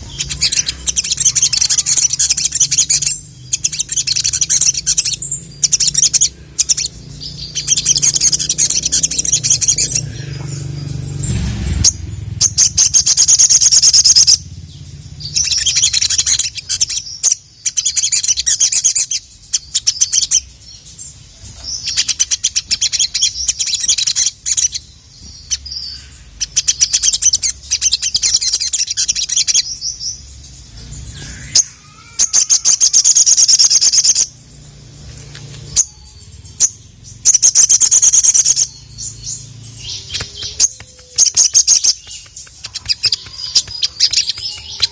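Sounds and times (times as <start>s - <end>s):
bird chattering trills: 0.0s - 34.8s, 35.7s - 44.9s.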